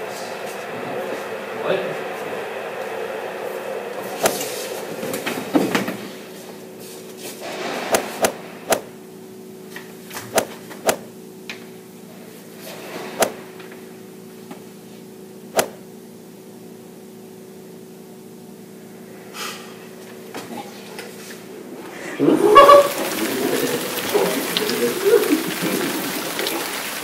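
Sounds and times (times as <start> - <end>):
steady low hum: 0.0 - 26.2.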